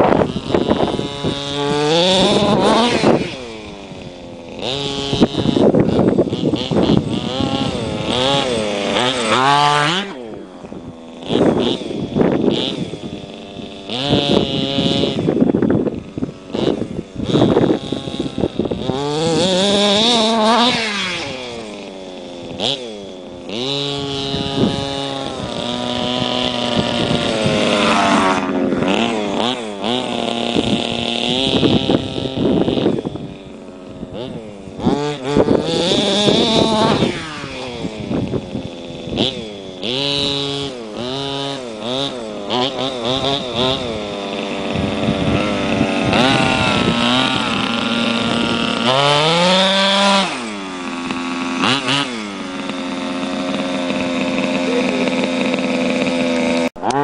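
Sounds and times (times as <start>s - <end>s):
two-stroke engine revving: 0.0s - 57.0s.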